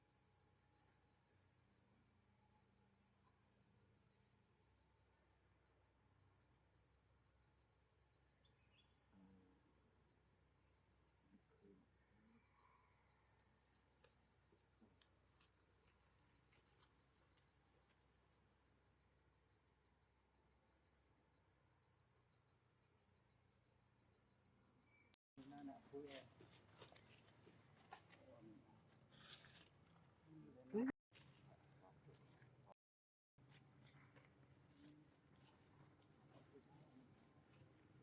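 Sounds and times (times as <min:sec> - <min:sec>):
faint insect chirping: 0:00.0 - 0:30.9, 0:33.4 - 0:38.0.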